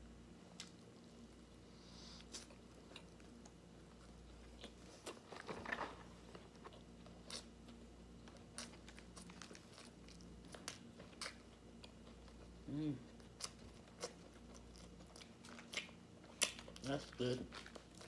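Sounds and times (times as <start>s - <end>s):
person chewing: 2.2s - 5.5s, 6.3s - 18.0s.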